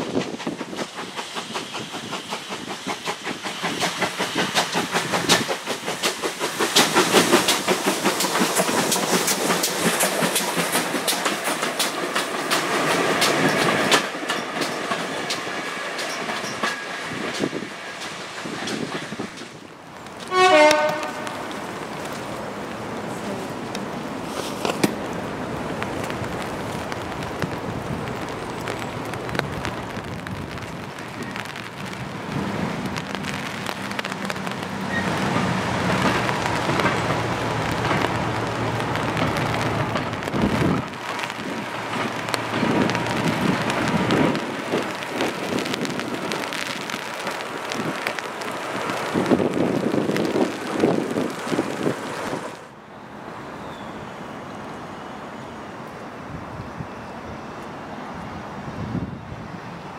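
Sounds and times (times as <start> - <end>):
diesel locomotive engine: 0.0 - 59.9
steady rain: 0.0 - 59.9
wind: 0.0 - 59.9.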